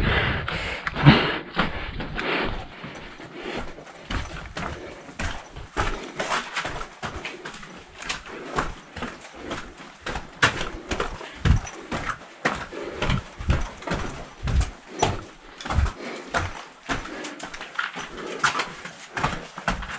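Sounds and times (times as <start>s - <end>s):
footsteps on rocky floor: 0.1s - 19.9s.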